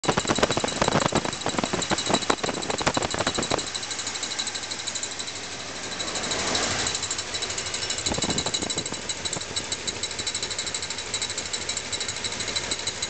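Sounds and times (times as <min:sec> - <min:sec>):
car engine idling: 0:00.0 - 0:13.0
rapid engine ticking: 0:00.0 - 0:13.0.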